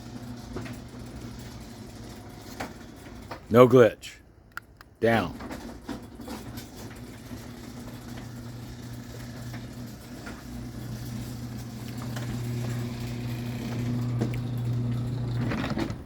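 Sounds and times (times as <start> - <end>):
garage door opener motor: 0.0 - 3.5, 5.4 - 16.0.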